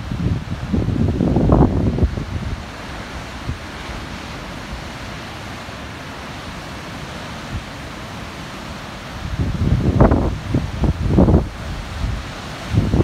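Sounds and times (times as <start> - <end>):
ocean surf on rocky shore: 0.0 - 13.0.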